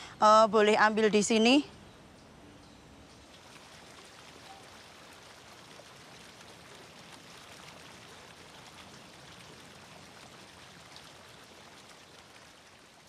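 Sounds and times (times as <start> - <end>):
water splashing and trickling: 0.6 - 13.0.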